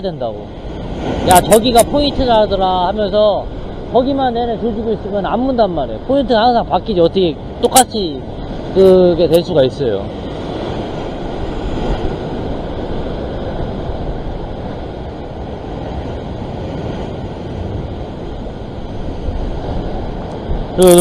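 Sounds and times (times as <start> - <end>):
wind buffeting microphone: 0.0 - 20.9
ocean surf: 0.0 - 21.0.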